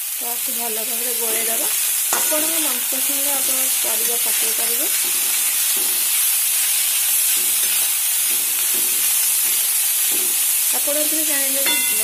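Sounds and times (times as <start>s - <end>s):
vegetables sizzling in a pan: 0.0s - 12.0s
spatula stirring in a pan: 1.1s - 12.0s.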